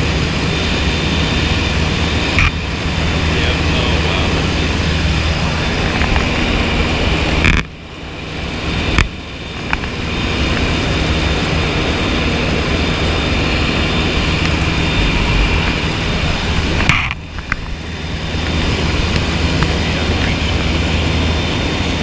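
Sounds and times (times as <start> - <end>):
aircraft engine droning: 0.0 - 22.0.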